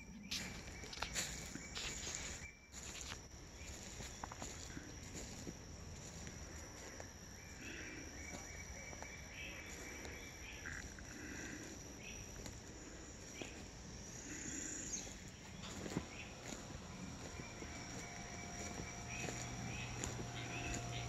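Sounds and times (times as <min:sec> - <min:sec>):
high insect trill: 0:00.0 - 0:21.0
footsteps on wood-chip mulch: 0:00.2 - 0:21.0.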